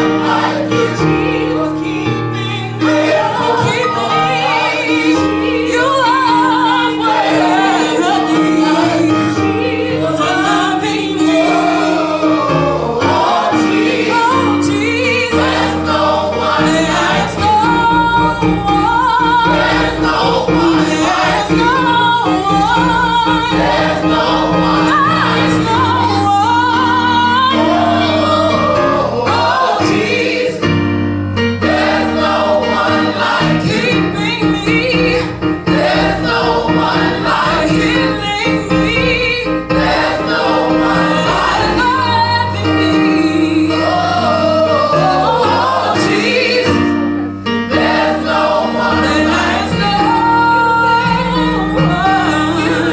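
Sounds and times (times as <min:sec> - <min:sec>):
gospel group singing: 0:00.0 - 0:52.9.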